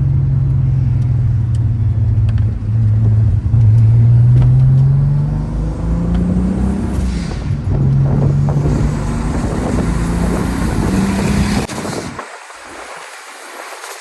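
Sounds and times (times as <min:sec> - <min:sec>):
engine and exhaust under load: 0:00.0 - 0:12.3.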